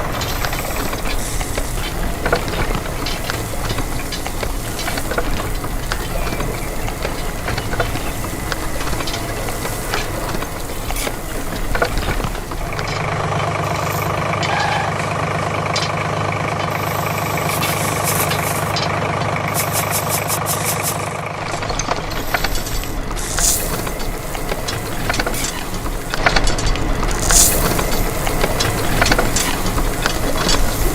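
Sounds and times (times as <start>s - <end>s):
irregular clattering: 0.0s - 13.1s, 15.7s - 30.9s
model tractor motor running: 0.0s - 30.9s.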